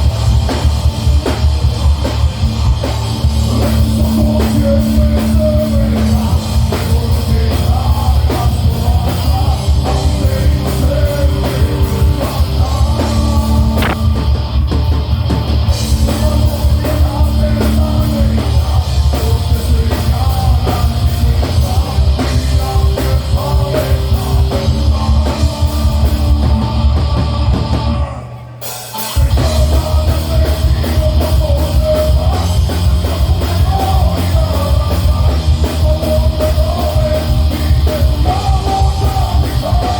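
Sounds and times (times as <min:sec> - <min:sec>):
metal band playing live: 0:00.0 - 0:39.9.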